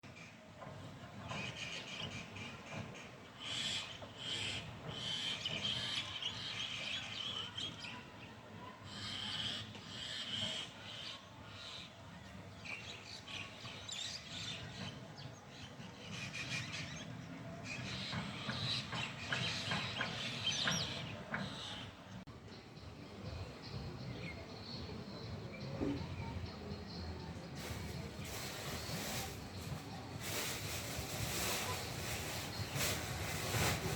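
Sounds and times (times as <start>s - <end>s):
many birds chirping: 0.1s - 33.9s.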